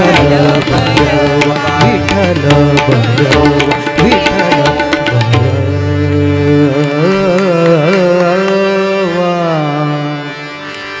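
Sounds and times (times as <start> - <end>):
person singing long note: 0.0 - 10.4
harmonium: 0.0 - 11.0.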